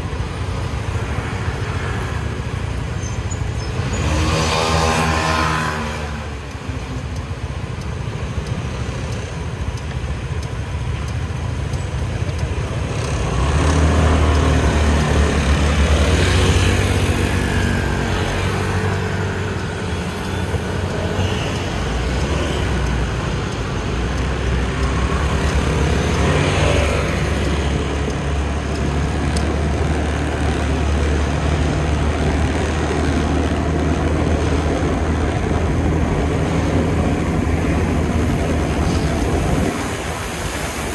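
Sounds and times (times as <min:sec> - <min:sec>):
scooter engine and road rumble: 0:00.0 - 0:40.9
traffic noise: 0:00.0 - 0:40.9.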